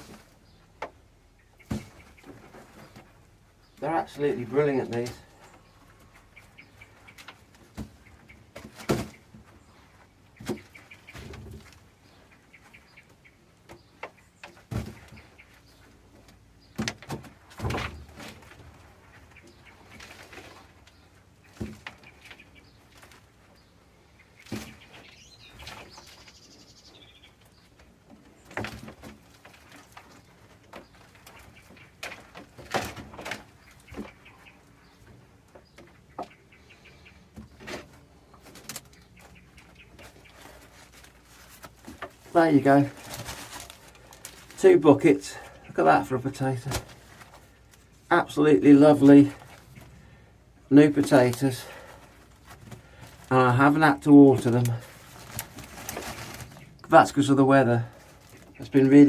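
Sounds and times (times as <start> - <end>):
potatoes and compost knocking: 0.0 - 12.2, 13.1 - 23.5, 26.9 - 59.0
birds chirping: 0.0 - 59.0.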